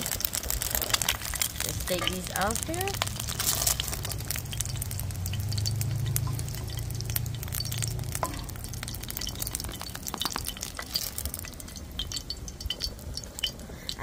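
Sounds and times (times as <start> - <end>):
hot oil crackling in a pan: 0.0 - 14.0
low steady hum: 0.0 - 14.0.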